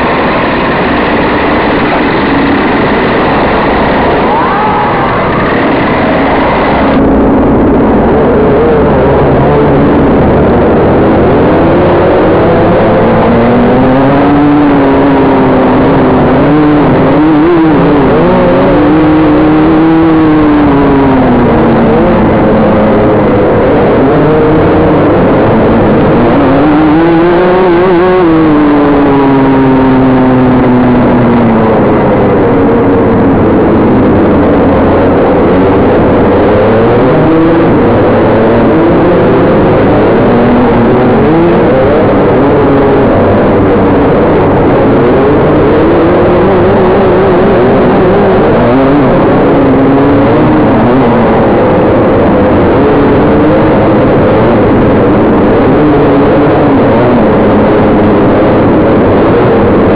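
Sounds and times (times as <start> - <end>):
kart engine revving: 0.0 - 52.8.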